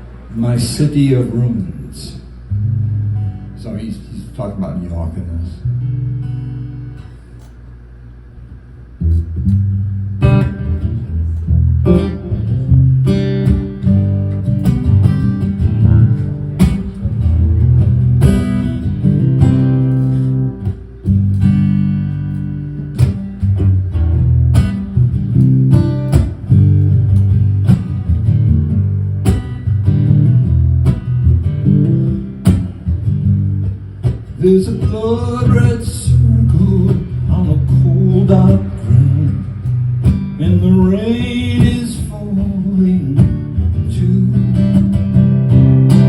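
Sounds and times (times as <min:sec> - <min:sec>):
acoustic guitar strumming chords: 0:02.3 - 0:03.8, 0:05.6 - 0:07.8, 0:08.4 - 0:46.0.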